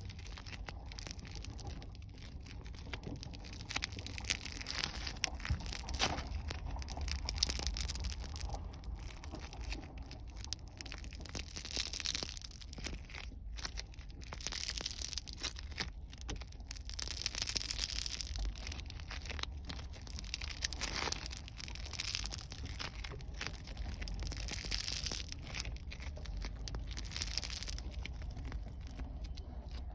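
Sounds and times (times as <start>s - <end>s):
crackle foam squeezed by hand: 0.0s - 29.9s.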